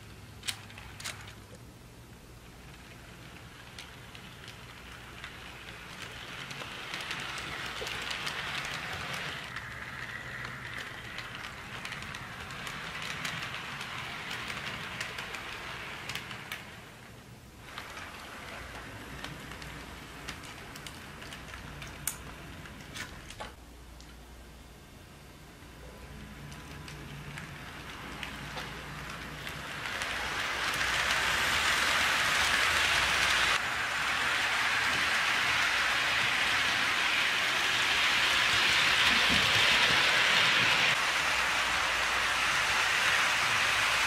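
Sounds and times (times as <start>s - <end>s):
model train whirring: 0.0s - 1.6s, 2.4s - 23.6s, 25.5s - 44.0s
wheels clicking on rails: 0.0s - 24.1s, 25.5s - 44.0s.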